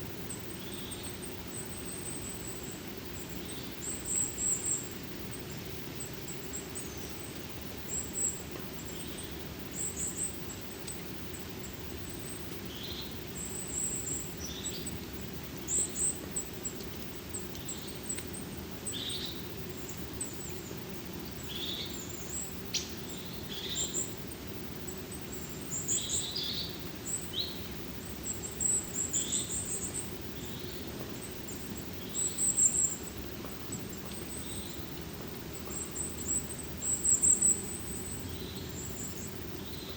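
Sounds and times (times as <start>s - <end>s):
forest ambience hum: 0.0s - 39.9s
small birds calling: 0.0s - 39.9s.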